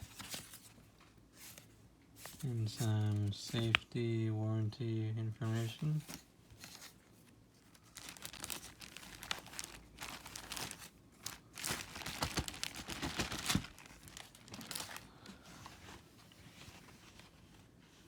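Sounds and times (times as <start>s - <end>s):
packaging crinkling and rustling: 0.0s - 3.8s, 5.4s - 17.7s.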